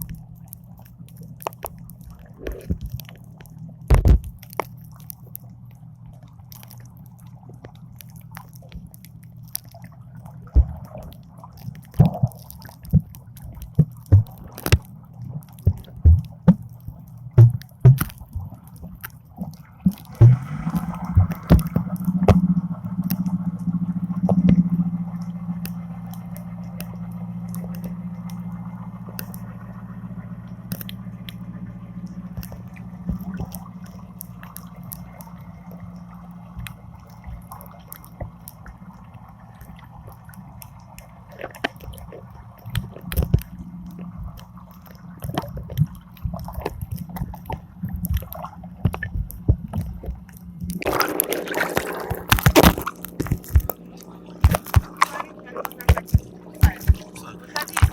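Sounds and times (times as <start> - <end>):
clicks and crackles: 0.0 - 29.7, 30.5 - 57.9
boat engine humming: 0.0 - 57.9
water sounds: 0.0 - 57.9.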